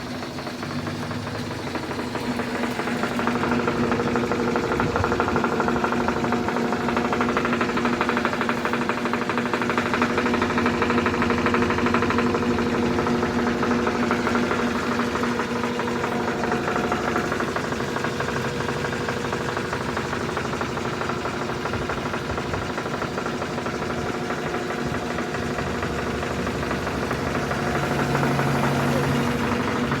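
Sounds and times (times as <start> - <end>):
rapid knocking in washing machine: 0.0 - 30.0
washing machine motor hum: 0.0 - 30.0.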